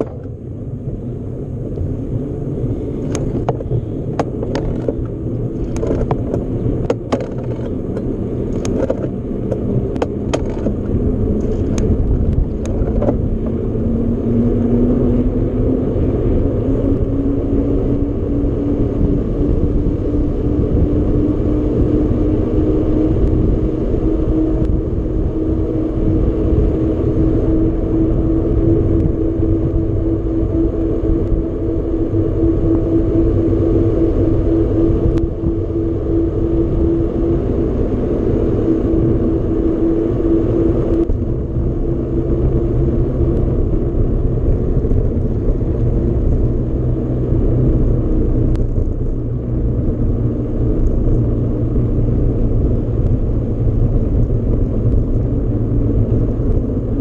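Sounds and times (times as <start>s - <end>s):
steady hum: 0.0s - 57.0s
wind rumbling on microphone: 0.0s - 57.0s.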